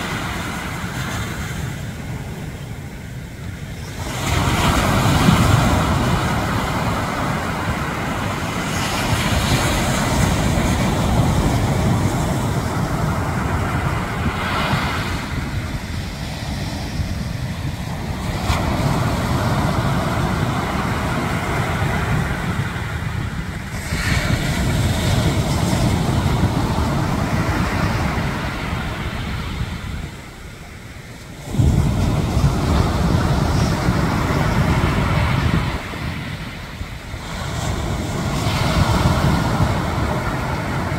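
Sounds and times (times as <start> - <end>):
sea waves breaking: 0.0 - 40.9
wind rumbling on microphone: 0.0 - 40.9.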